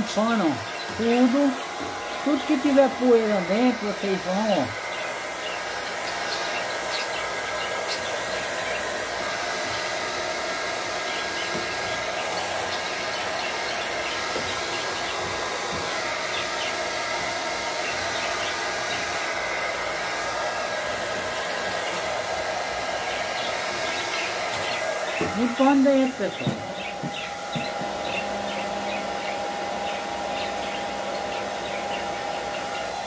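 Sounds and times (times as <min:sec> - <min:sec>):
hair dryer blowing air: 0:00.0 - 0:33.0.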